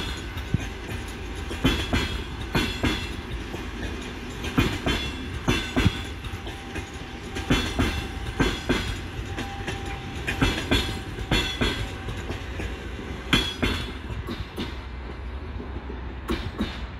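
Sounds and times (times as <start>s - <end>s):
low train rumble: 0.0s - 16.9s
train wheels clicking over rail joints: 0.0s - 16.9s.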